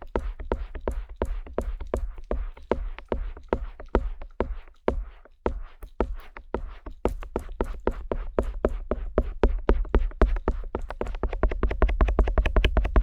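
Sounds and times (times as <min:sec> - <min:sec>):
ear pick tapping microphone: 0:00.0 - 0:13.0.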